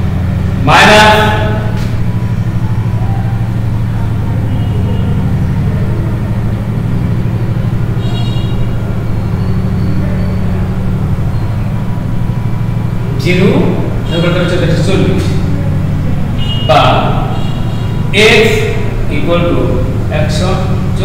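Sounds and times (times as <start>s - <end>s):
low rumbling hum: 0.0s - 21.0s.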